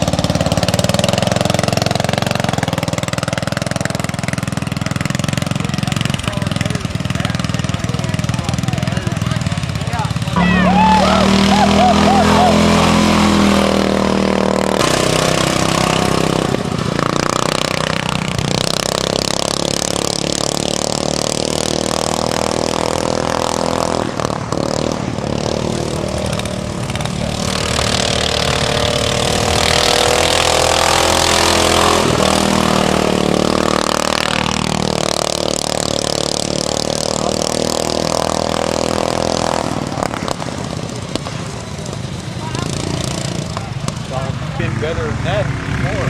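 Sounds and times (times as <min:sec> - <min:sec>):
lawnmower engines revving: 0:00.0 - 0:46.0.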